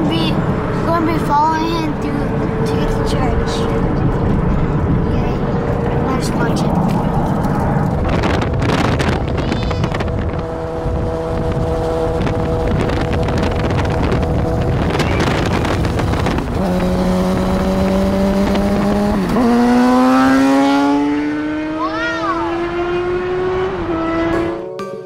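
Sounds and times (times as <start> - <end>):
motorcycle engine accelerating: 0.0 - 24.7
road and wind noise: 0.0 - 24.8.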